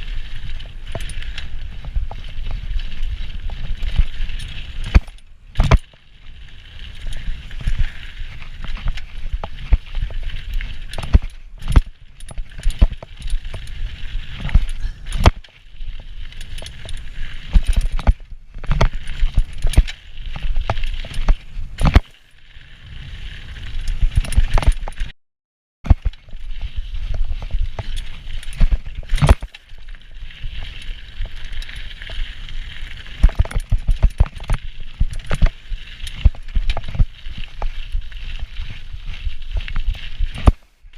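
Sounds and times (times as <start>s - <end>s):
bike chain and frame rattling: 0.0s - 25.1s, 25.9s - 40.6s
bike tyres rumbling on dirt: 0.0s - 25.1s, 25.9s - 40.9s.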